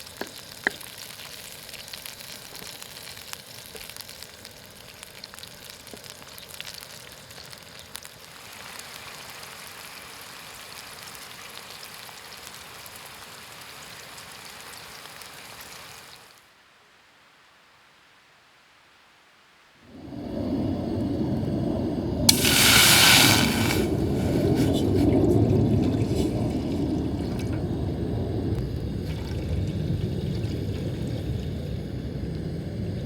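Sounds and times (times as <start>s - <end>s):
food frying in oil: 0.0s - 16.4s, 19.9s - 33.0s.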